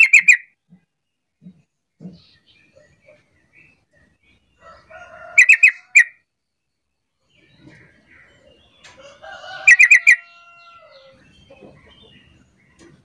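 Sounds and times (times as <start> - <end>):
bird calling with sharp chirps: 0.0 - 13.0.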